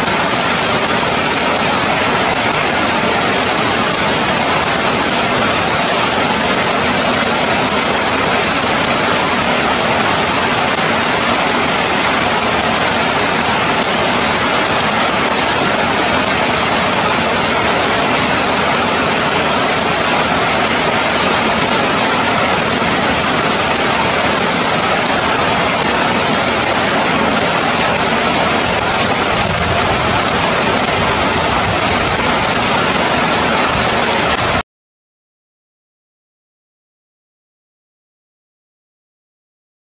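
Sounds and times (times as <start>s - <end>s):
heavy rain on foliage: 0.0s - 34.6s.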